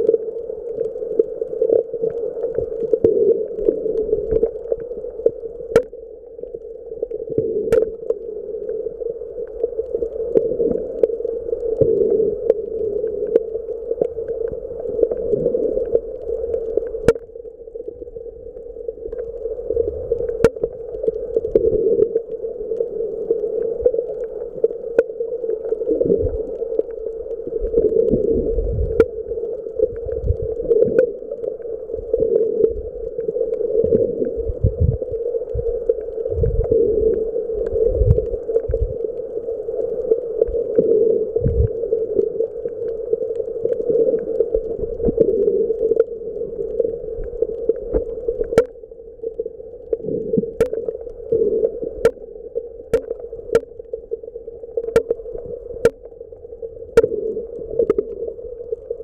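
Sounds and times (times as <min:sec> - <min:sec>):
underwater hum: 0:00.0 - 0:59.0
water movement swells: 0:00.0 - 0:59.0.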